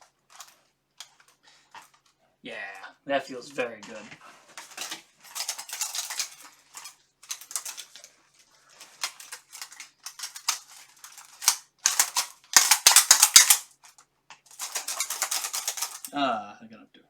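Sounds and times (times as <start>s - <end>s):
metal gauntlets clinking: 0.0s - 2.2s, 3.8s - 16.2s.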